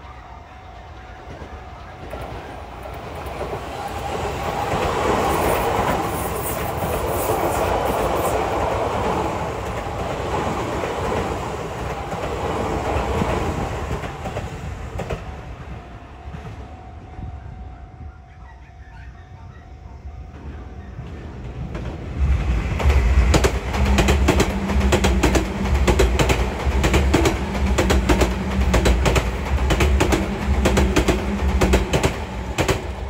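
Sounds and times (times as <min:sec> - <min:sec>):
electric train rumbling past: 0:00.0 - 0:33.0.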